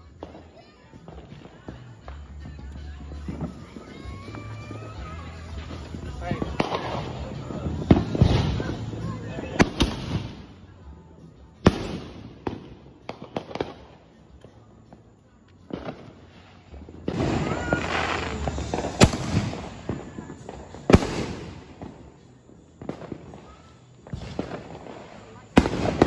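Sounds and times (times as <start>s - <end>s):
fireworks bangs: 0.0s - 10.7s, 11.6s - 14.1s, 15.6s - 26.0s
fireworks hissing and crackling: 0.0s - 26.0s.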